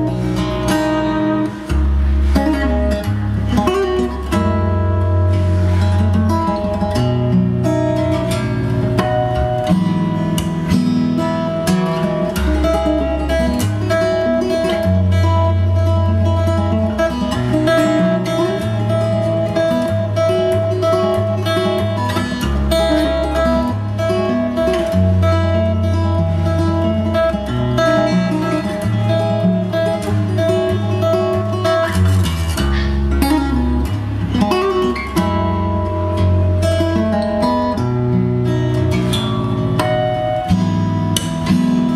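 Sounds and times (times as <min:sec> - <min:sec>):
acoustic guitar strumming: 0:00.0 - 0:41.9
bass line: 0:00.0 - 0:41.9.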